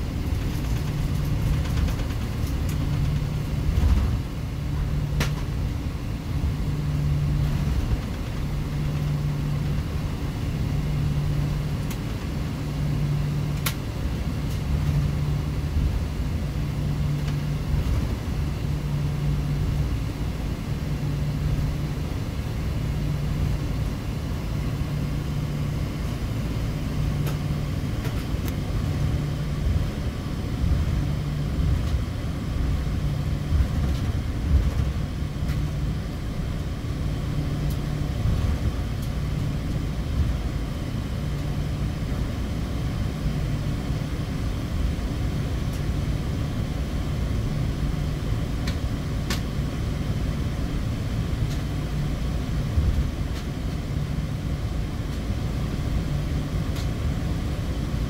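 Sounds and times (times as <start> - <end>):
aircraft engines droning: 0.0 - 58.0
low hum: 0.0 - 58.0.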